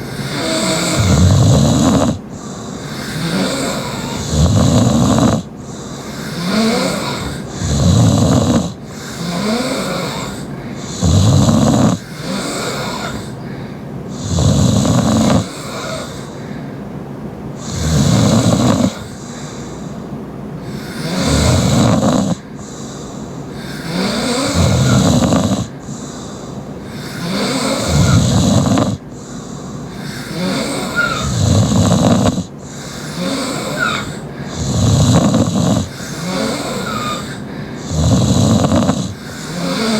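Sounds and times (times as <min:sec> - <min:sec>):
woman snoring: 0:00.0 - 0:13.4, 0:14.1 - 0:16.4, 0:17.6 - 0:19.7, 0:20.6 - 0:39.9
quiet breathing: 0:00.0 - 0:39.9.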